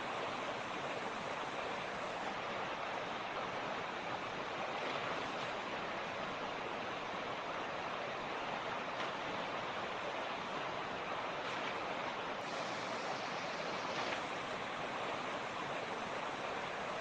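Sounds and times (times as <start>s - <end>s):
creek water rushing over stones: 0.0s - 17.0s.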